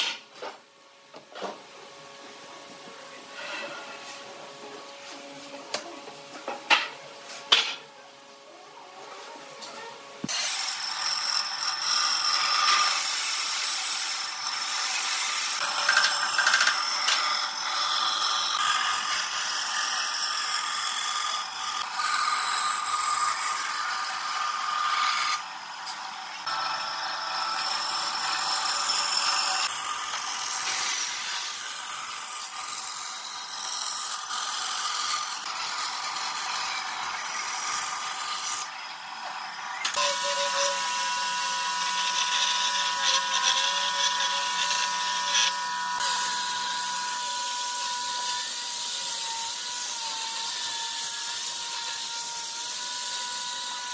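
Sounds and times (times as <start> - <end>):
bandsaw cutting wood: 10.2 - 53.9.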